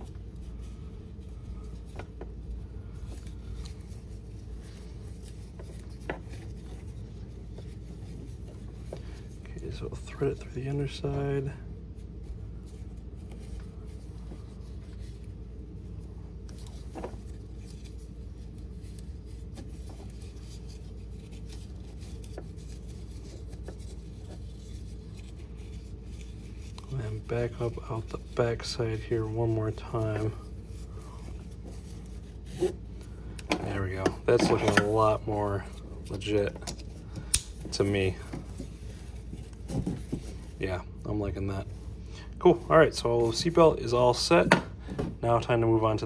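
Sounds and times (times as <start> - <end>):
strap rustling: 0.0 - 45.4
steady low hum: 0.0 - 46.0.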